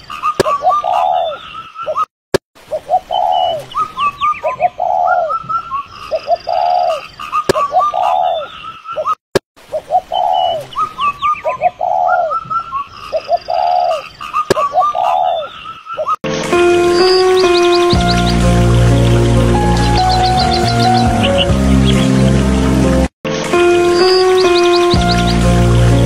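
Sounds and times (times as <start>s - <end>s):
birds calling and chirping: 0.0s - 2.1s, 2.7s - 22.9s, 23.5s - 26.0s.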